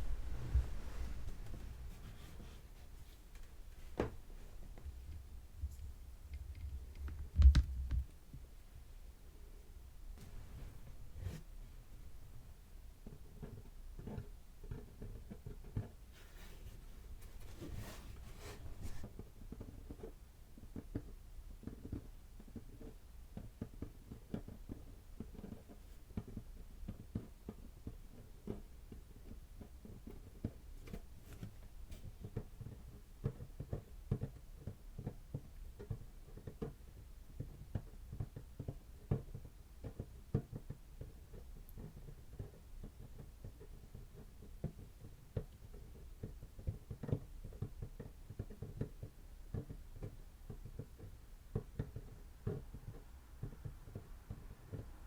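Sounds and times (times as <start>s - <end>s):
soft irregular tapping: 0.0s - 8.5s, 12.3s - 55.0s.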